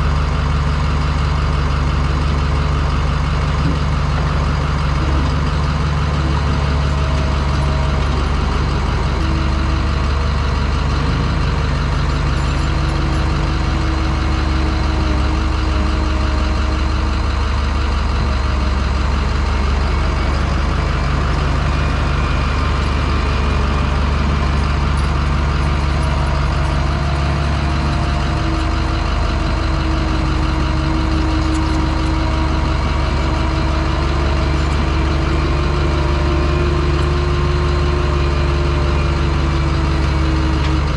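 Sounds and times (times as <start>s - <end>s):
truck diesel engine running: 0.0s - 40.9s.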